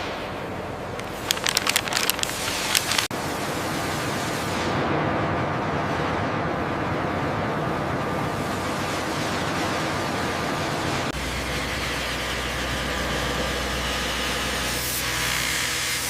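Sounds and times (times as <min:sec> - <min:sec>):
mechanical rumble with hiss: 0:00.0 - 0:16.0.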